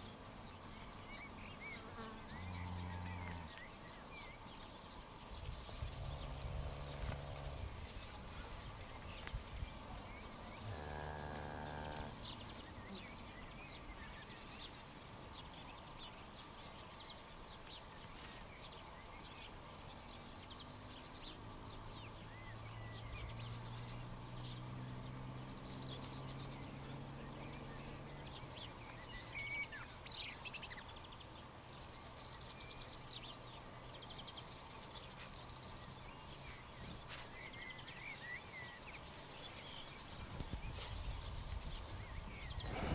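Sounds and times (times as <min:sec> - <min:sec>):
songbirds chirping and trilling: 0:00.0 - 0:42.9.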